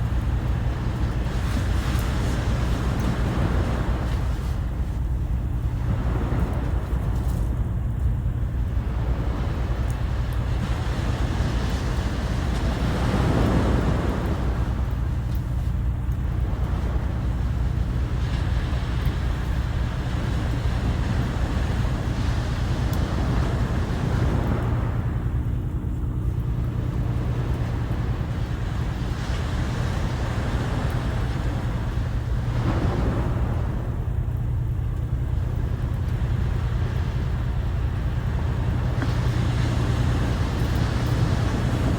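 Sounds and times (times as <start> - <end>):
sea waves breaking: 0.0 - 41.9.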